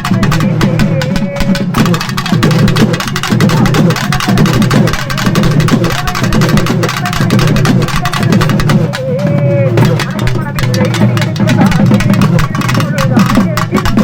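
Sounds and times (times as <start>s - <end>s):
fast drumming: 0.0s - 14.0s.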